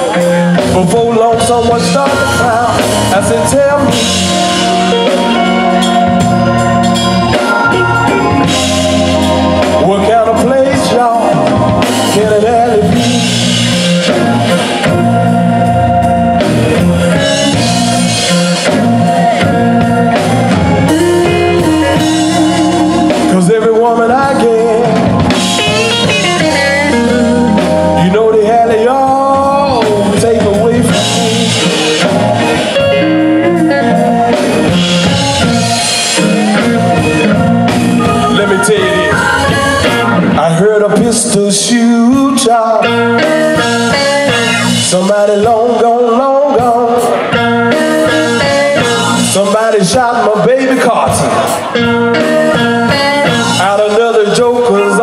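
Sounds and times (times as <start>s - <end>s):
blues band playing: 0.0s - 55.0s
electric guitar lead: 0.0s - 55.0s.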